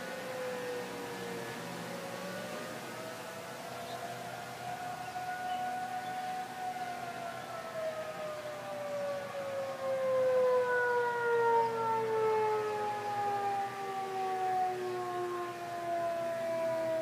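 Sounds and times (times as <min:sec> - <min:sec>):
warning siren winding down: 0:00.0 - 0:17.0.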